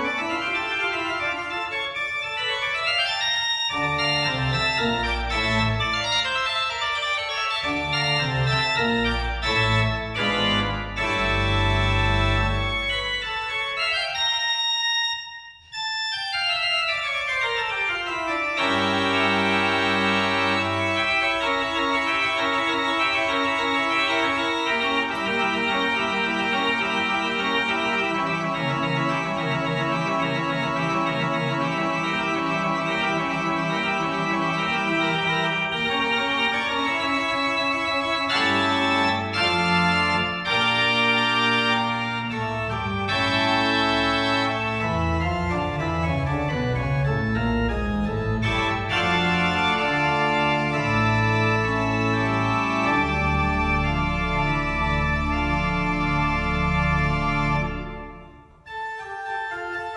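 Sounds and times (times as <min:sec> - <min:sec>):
church organ playing: 0:00.0 - 0:59.9.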